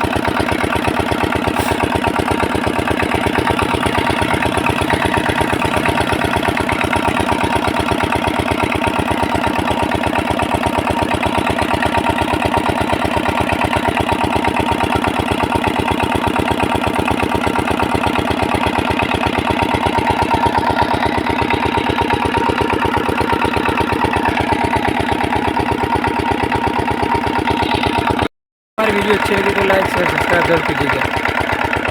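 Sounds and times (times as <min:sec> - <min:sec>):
diesel engine chugging: 0:00.0 - 0:31.9.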